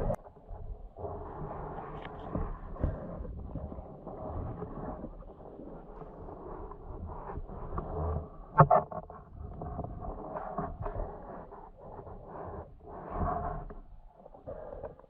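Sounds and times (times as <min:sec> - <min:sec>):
muffled underwater water movement: 0:00.0 - 0:15.0.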